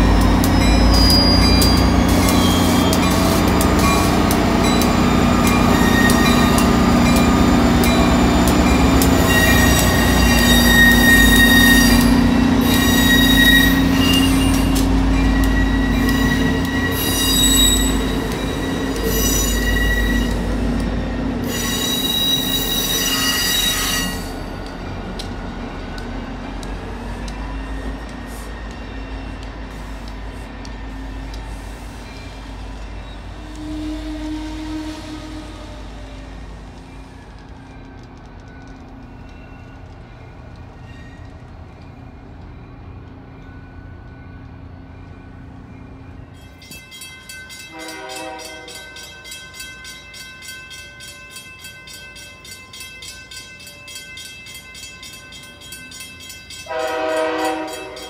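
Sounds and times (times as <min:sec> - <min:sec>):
diesel locomotive engine hum: 0:00.0 - 0:49.7
train wheels squealing: 0:00.0 - 0:52.9
train coaches rolling: 0:00.0 - 0:58.0.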